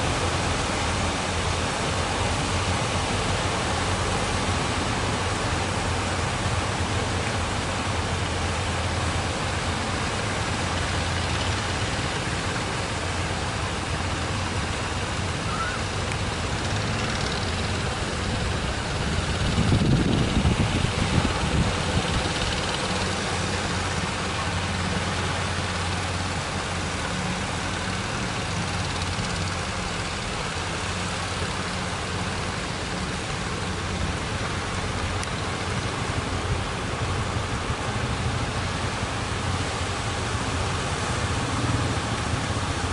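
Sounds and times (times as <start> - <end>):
boat engine humming: 0.0 - 42.9
surf hissing: 0.0 - 42.9.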